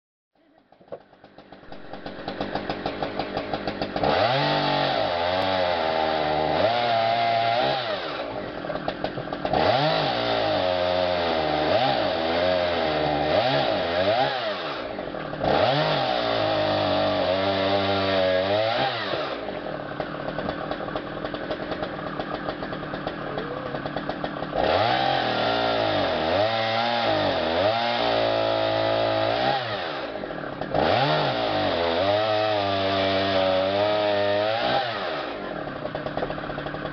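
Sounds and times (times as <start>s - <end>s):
chainsaw cutting logs: 0.6s - 36.9s.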